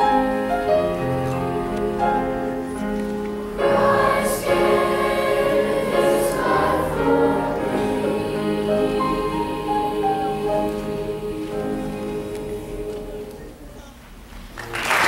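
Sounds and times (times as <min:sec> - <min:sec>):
mixed choir singing: 0:00.0 - 0:02.6, 0:03.5 - 0:13.8
piano accompaniment: 0:00.0 - 0:13.6.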